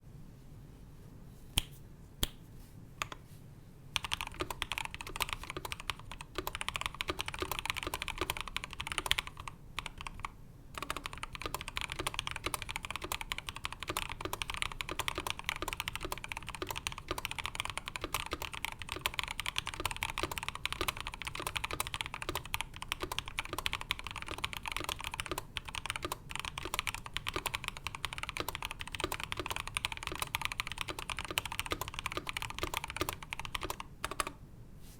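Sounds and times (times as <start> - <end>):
mechanical keyboard typing: 4.0 - 34.4.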